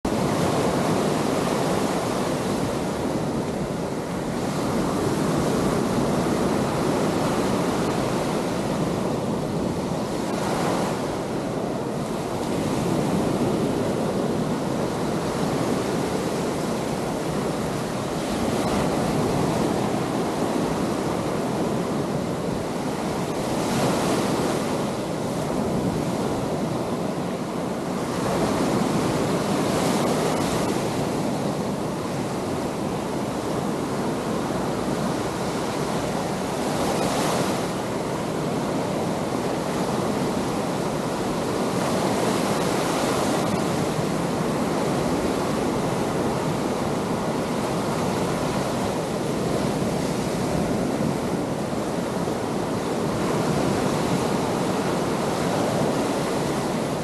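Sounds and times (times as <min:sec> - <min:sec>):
surf washing up sandy beach: 0:00.1 - 0:57.0.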